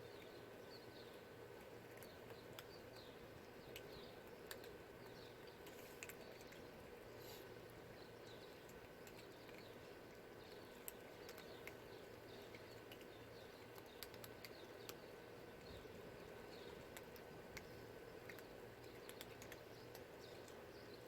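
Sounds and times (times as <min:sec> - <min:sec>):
cats crunching dry kibble: 0:00.0 - 0:21.0
small birds chirping faintly: 0:00.0 - 0:21.0
steady low hum: 0:00.0 - 0:21.0.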